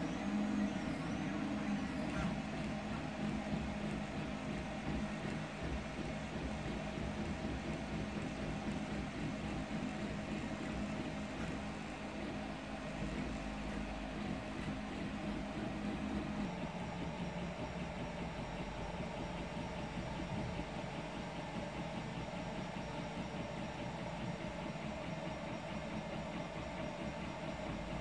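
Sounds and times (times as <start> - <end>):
cooling fans humming: 0.0 - 28.0.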